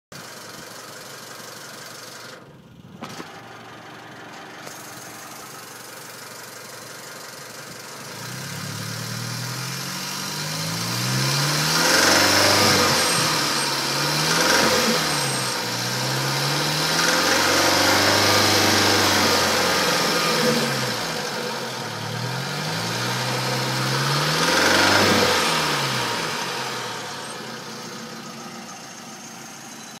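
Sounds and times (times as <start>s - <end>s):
car engine idling and revving: 0.1s - 30.0s.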